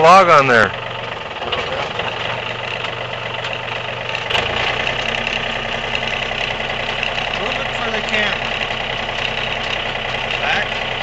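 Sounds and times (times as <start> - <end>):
sawmill engine running: 0.0 - 11.0.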